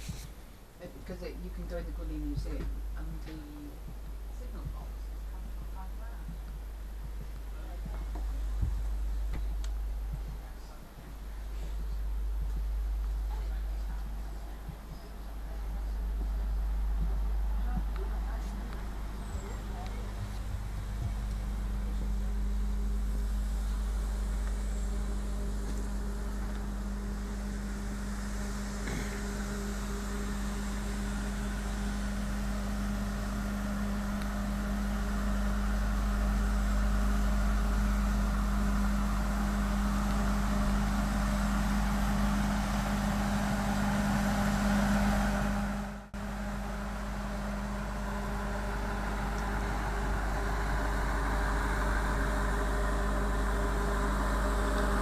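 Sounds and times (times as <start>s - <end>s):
steam train hum and hiss: 0.0s - 55.0s.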